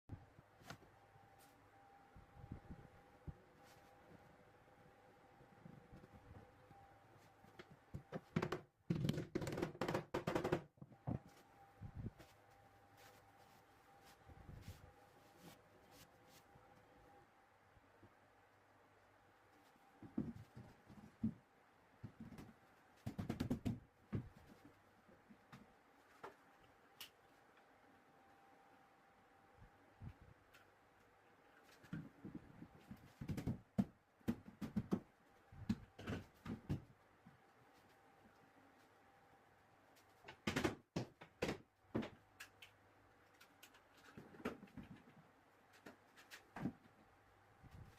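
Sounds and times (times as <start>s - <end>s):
faint steady hum: 0.1s - 9.2s, 10.2s - 47.9s.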